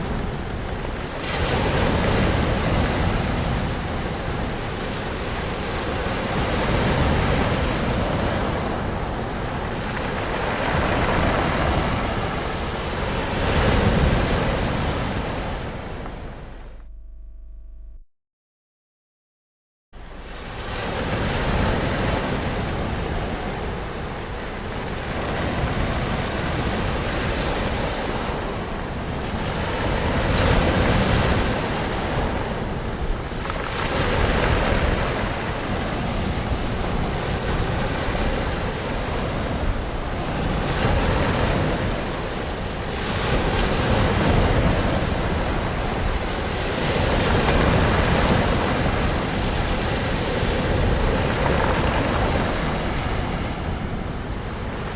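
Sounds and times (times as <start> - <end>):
ocean waves washing: 0.0 - 16.8, 20.0 - 54.9.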